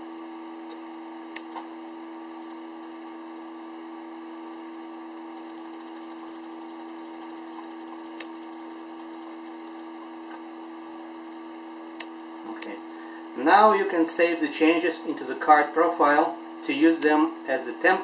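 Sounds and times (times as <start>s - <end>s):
equipment hum: 0.0s - 18.0s.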